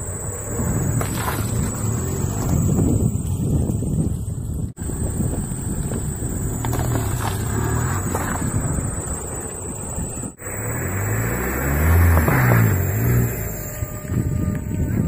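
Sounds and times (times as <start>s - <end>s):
car rolling over plastic bottles: 0.0s - 11.0s, 11.6s - 14.5s
car engine running at low revs: 0.0s - 15.0s.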